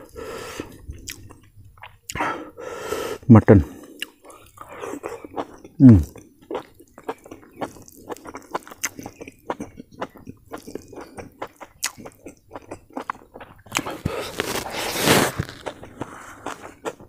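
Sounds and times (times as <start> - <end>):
close chewing and lip smacks: 0.0 - 2.2, 3.2 - 17.0.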